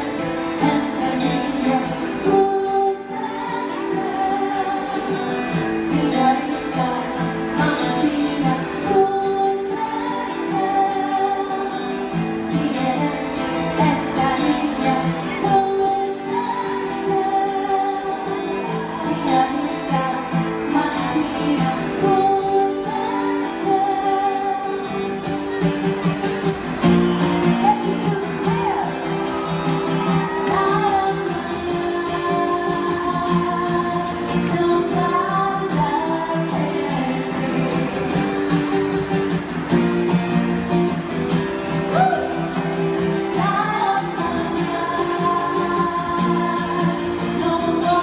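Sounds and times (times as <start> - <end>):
woman singing: 0.0 - 26.2, 26.9 - 39.0, 41.8 - 48.0
guitar accompaniment: 0.0 - 48.0.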